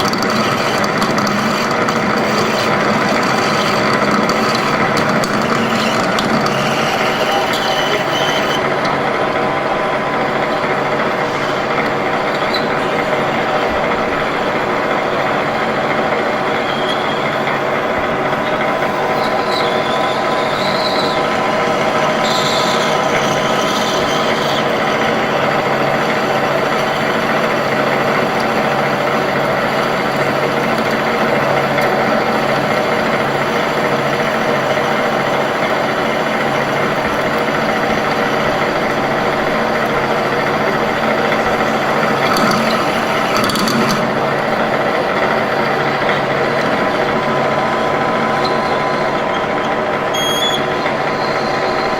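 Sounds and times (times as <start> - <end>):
faint high whines: 0.0 - 51.9
metal lathe humming: 0.0 - 51.9.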